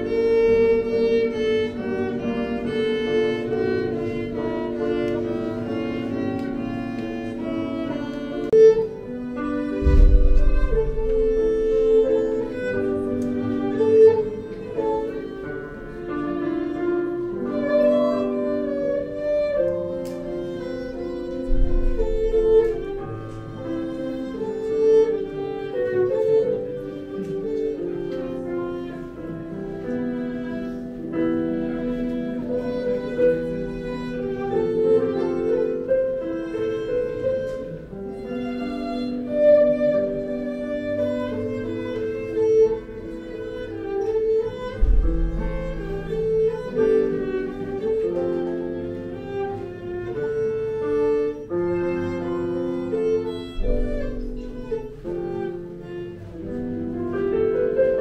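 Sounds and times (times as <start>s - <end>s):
digital piano: 0.0s - 58.0s
violin slow melody: 0.0s - 58.0s.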